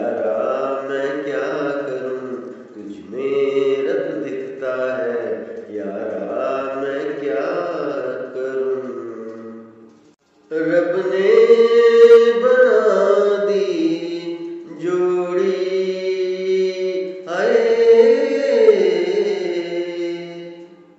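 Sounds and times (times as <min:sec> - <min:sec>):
man singing unaccompanied: 0:00.0 - 0:09.9, 0:10.5 - 0:20.9.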